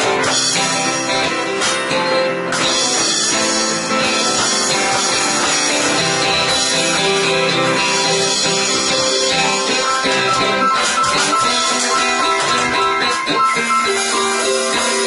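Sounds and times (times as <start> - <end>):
band playing with guitar: 0.0 - 15.0.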